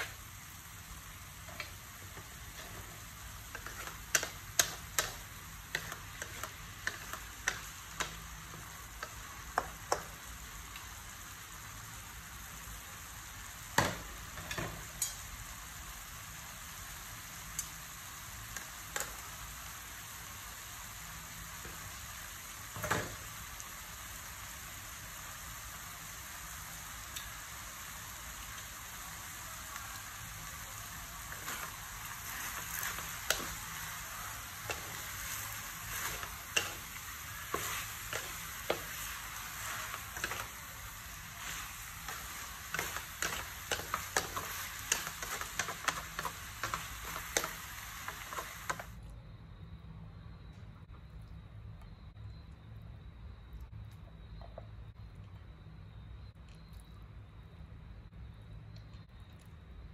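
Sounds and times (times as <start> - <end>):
food sizzling in a wok: 0.0 - 49.0.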